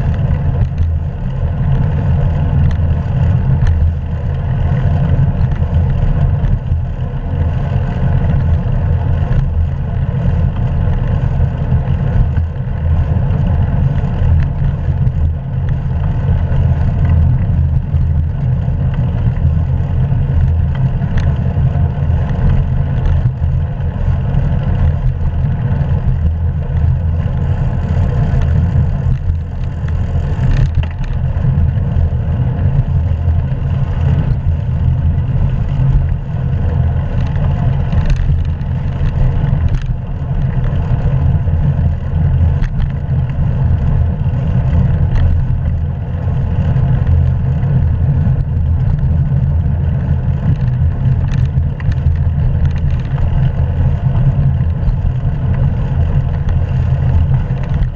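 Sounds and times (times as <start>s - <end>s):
wind and road noise: 0.0s - 57.9s.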